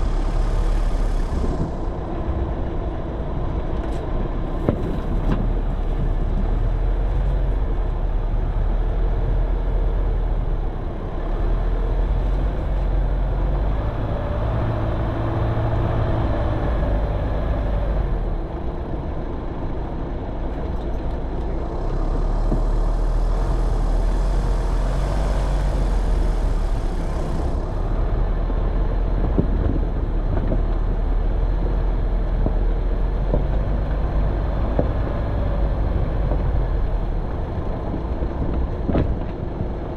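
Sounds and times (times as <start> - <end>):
off-road vehicle engine: 0.0 - 39.9.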